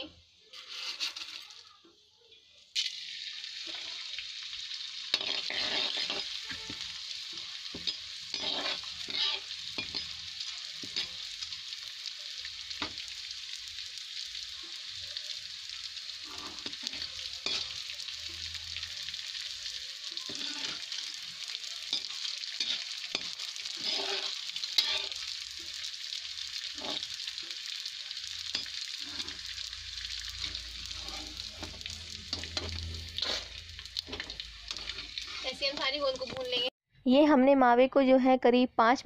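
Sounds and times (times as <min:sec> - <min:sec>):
frying sizzle with crackling pops: 0:00.0 - 0:36.7.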